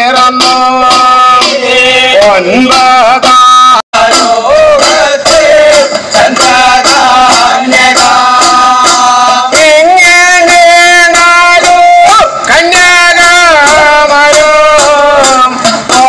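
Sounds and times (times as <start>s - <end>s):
man singing long held notes: 0.0s - 16.0s
steady percussion strokes: 0.0s - 16.0s.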